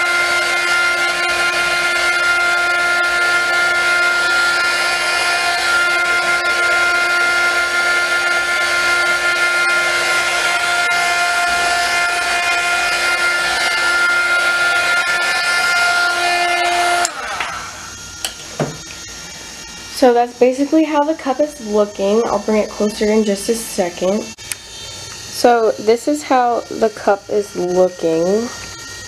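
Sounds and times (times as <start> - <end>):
heat gun running: 0.0 - 29.0.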